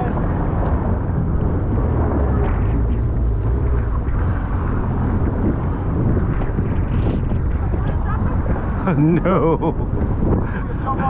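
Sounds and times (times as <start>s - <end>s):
jet ski engine droning: 0.0s - 11.0s
rushing wind: 0.0s - 11.0s
water noise: 0.0s - 11.0s.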